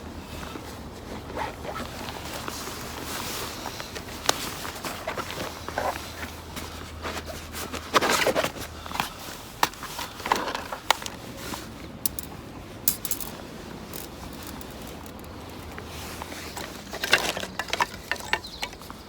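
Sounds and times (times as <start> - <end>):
camping gear rustling and clinking: 0.1 - 19.0.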